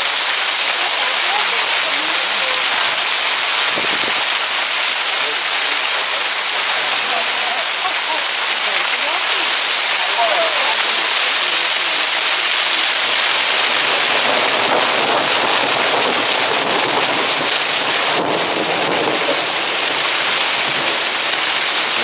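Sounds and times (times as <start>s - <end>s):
heavy rain on wet road: 0.0s - 22.0s.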